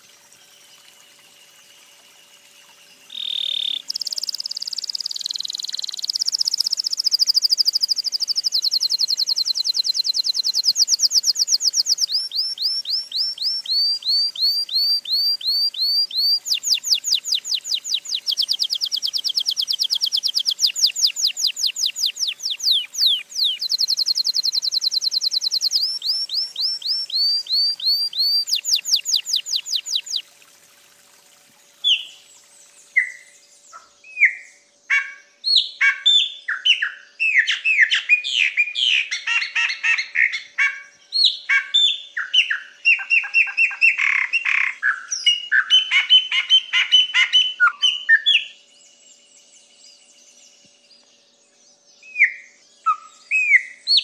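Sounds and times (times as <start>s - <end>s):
blackbird whistling: 3.1s - 30.2s, 34.1s - 48.5s, 52.0s - 54.0s.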